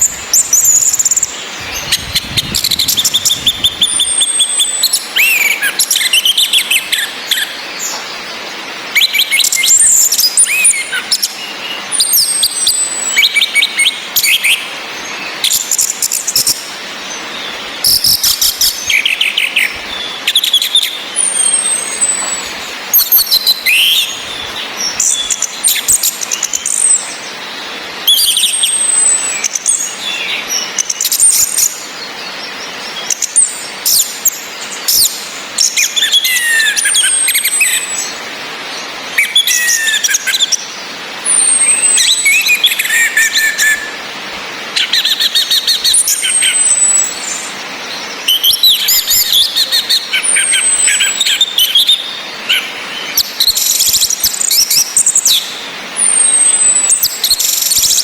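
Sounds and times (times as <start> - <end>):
rain hiss: 0.0 - 58.0
thrushes singing and calling: 0.0 - 58.0.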